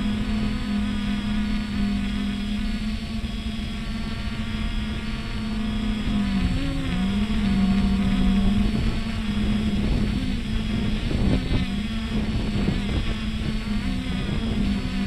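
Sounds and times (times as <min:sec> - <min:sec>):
drone propellers humming: 0:00.0 - 0:15.0
wind on microphone: 0:00.0 - 0:15.0.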